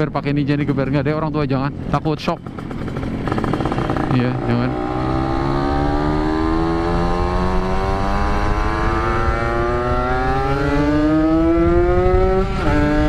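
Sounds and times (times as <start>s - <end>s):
two-stroke motorcycle engine accelerating: 2.2s - 13.0s.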